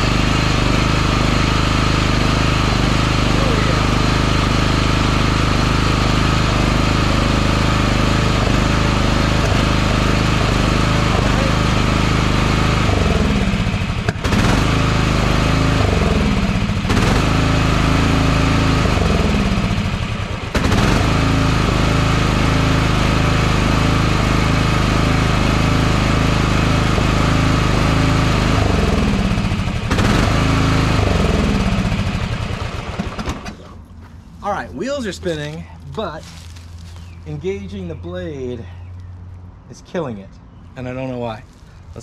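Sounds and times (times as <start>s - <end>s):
lawn mower engine running: 0.0s - 39.6s.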